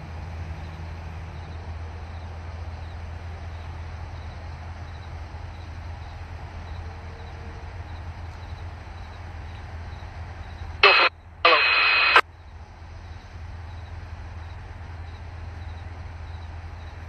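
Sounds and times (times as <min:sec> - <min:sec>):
low hum at rail platform: 0:00.0 - 0:17.0.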